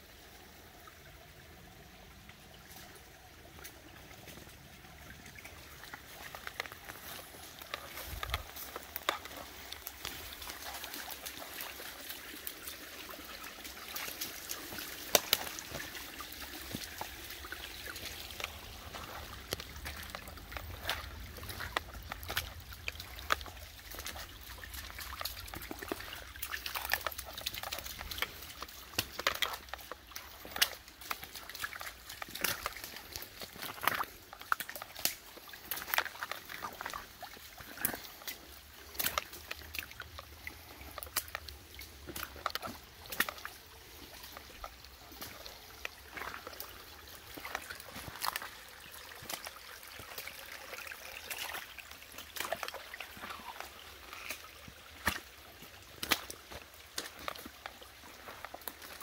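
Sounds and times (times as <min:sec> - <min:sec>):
feet splashing through creek: 0:00.0 - 0:59.0
steps ticking on wet stones: 0:02.7 - 0:59.0.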